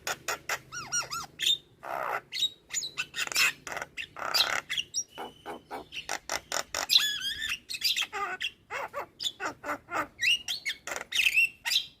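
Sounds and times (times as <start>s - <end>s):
myna bird singing: 0.0s - 12.0s.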